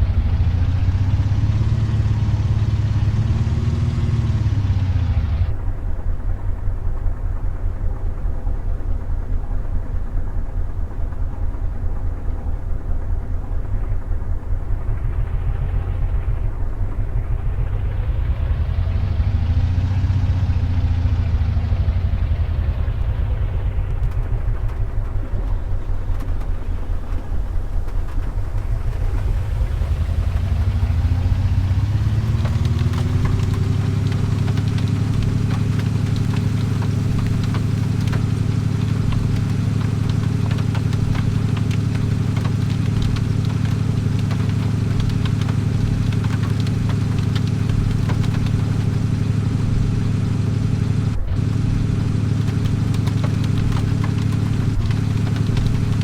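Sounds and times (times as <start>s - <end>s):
vehicle engine speeding up: 0.0s - 5.7s, 14.6s - 56.0s.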